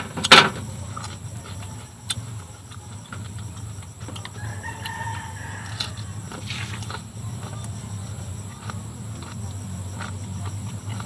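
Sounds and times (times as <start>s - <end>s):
crunchy chewing: 0.0s - 11.0s
steady low hum: 0.0s - 11.0s.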